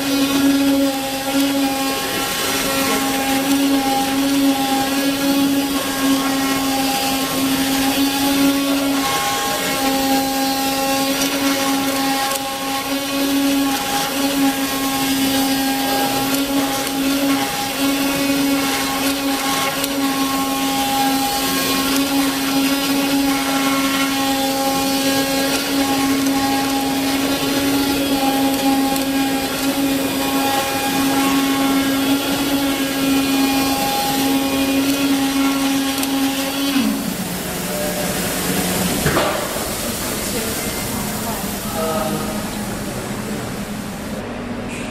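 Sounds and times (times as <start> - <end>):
cutting machine motor humming: 0.0 - 44.2.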